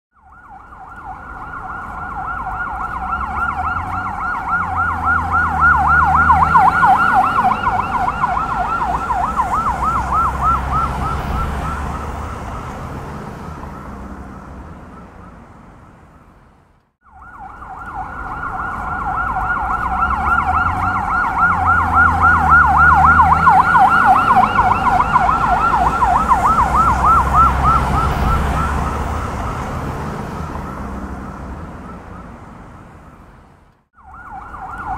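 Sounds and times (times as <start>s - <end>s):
engine and traffic rumble: 0.1s - 34.9s
police siren yelping: 0.2s - 15.2s, 17.0s - 32.3s, 34.0s - 34.9s.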